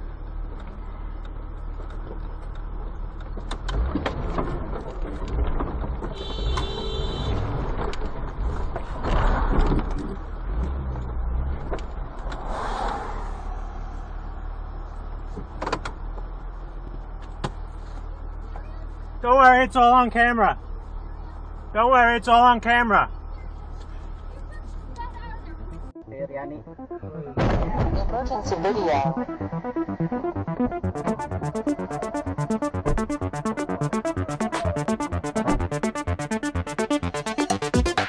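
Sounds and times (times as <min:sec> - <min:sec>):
vehicle engine and road rumble: 0:00.0 - 0:38.0.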